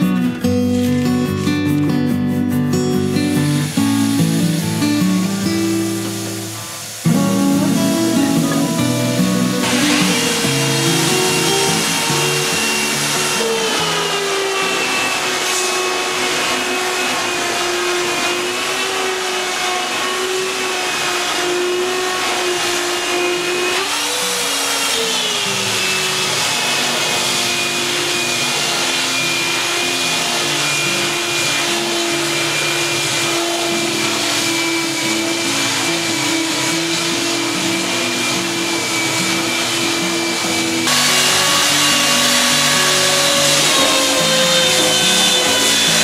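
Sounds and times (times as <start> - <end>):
belt sander grinding: 3.4 - 46.0.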